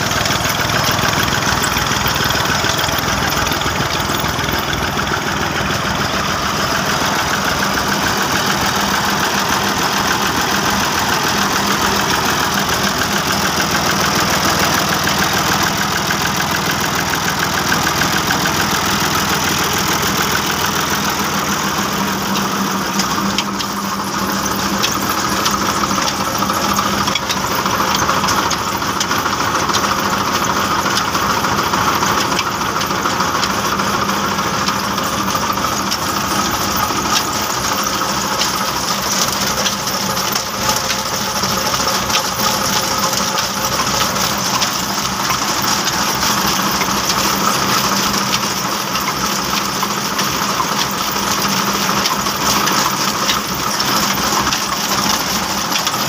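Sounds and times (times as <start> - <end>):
clatter of belts and mill: 0.0 - 56.0
tractor engine running: 0.0 - 56.0.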